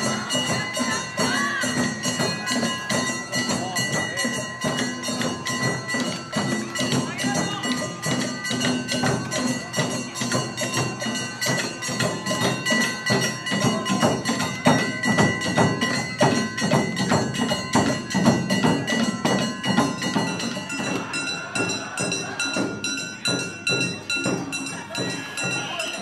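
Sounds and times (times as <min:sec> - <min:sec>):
ringing sustained tones: 0:00.0 - 0:26.0
steady percussion beat: 0:00.0 - 0:26.0.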